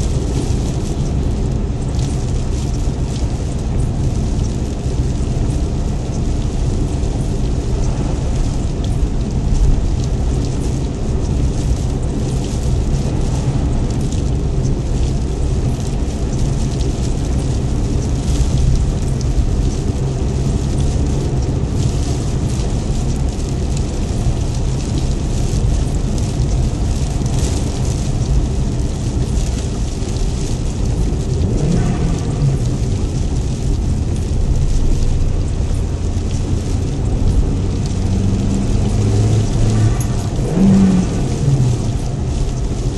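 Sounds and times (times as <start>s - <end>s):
deep low rumble: 0.0s - 42.9s
steady rain: 0.0s - 42.9s.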